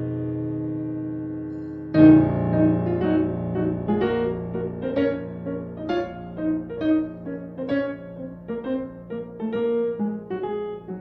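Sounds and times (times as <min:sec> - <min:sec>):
solo piano music: 0:00.0 - 0:11.0.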